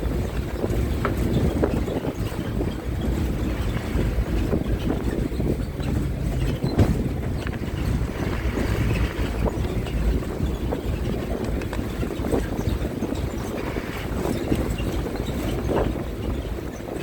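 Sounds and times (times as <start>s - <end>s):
bus engine rumble: 0.0s - 17.0s
wind buffeting microphone: 0.0s - 17.0s
knocks and rattles: 0.4s - 17.0s.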